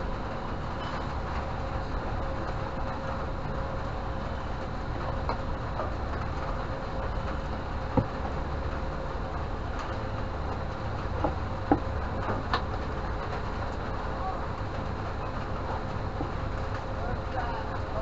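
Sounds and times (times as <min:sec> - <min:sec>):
faint constant hum: 0:00.0 - 0:18.0
low rumble: 0:00.0 - 0:18.0.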